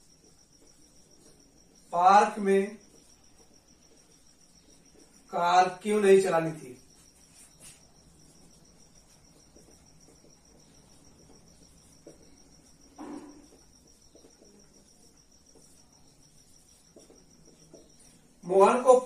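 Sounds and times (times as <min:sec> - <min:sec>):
marker writing on whiteboard: 0:00.0 - 0:19.0.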